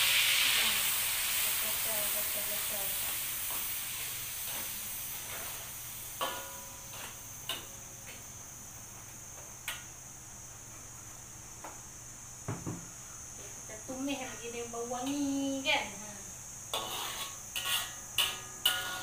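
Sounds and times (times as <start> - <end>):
aromatics sizzling in hot oil: 0.0 - 19.0.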